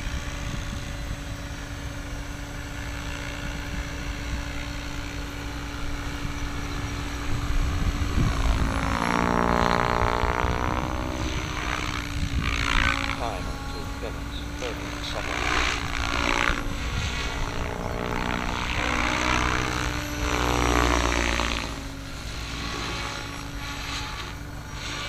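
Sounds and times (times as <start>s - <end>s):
model helicopter rotor whine: 0.0s - 25.0s.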